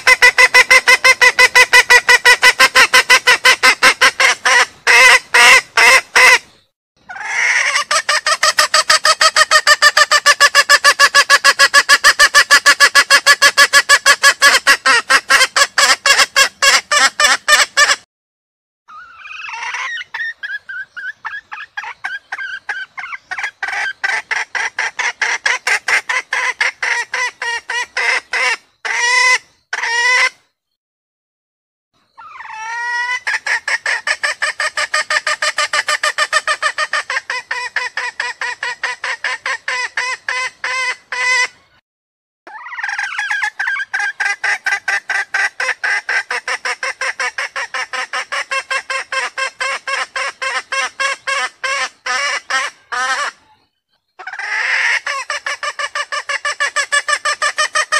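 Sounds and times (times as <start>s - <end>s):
hen clucking rapidly: 0.0s - 6.5s, 7.1s - 18.0s, 18.9s - 30.3s, 32.2s - 41.5s, 42.5s - 57.9s.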